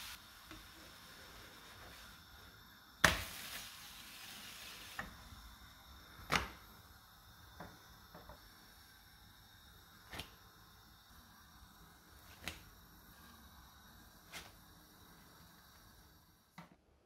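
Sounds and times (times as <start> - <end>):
light sizzle in a pan: 0.0 - 16.7.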